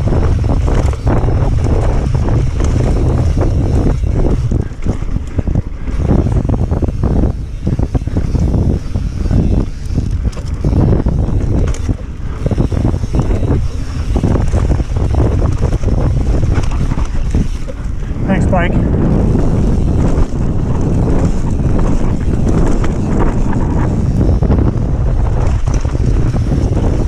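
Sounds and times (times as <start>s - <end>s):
bike rattling over bumps: 0.0s - 27.0s
wind buffeting microphone: 0.0s - 27.0s.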